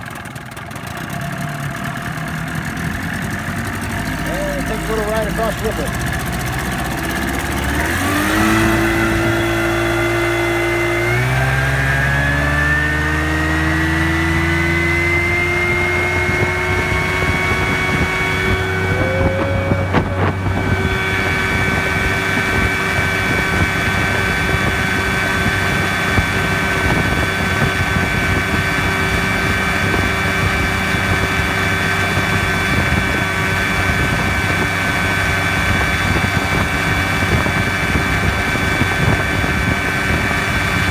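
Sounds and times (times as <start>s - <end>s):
outboard motor throttling up: 0.0s - 40.9s.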